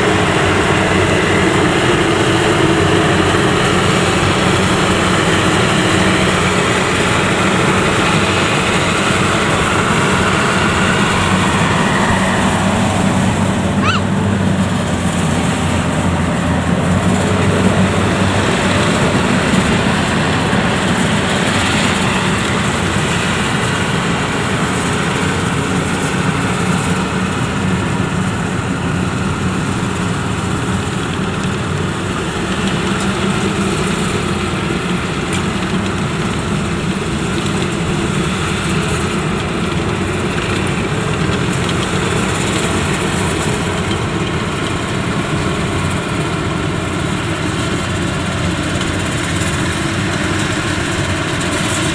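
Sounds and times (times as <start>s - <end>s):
combine harvester running: 0.0s - 51.9s.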